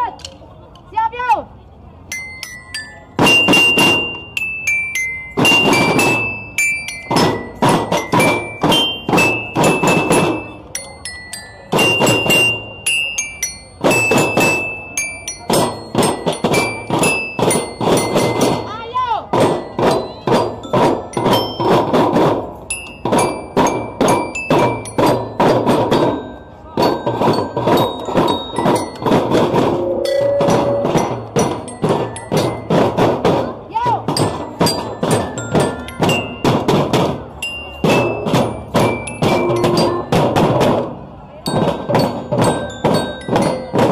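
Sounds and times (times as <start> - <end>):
mallet-struck metal bar notes: 2.1 - 43.9.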